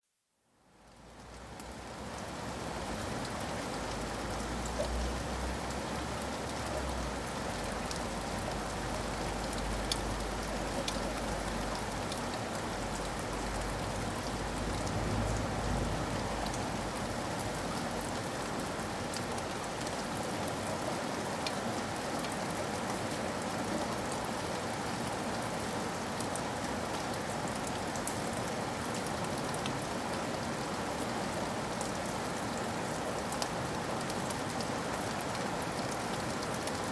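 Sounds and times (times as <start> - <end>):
steady rain falling: 0.4 - 36.9.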